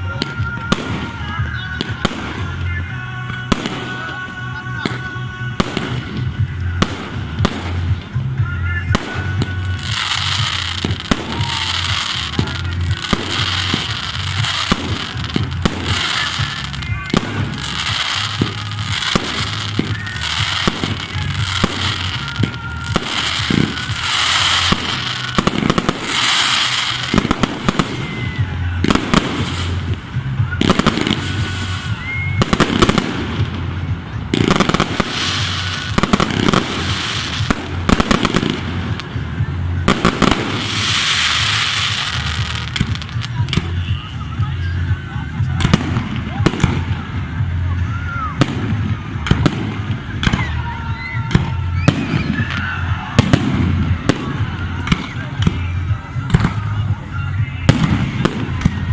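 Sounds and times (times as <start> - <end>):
fireworks bangs: 0.0 - 58.9
fireworks crackling: 0.0 - 58.9.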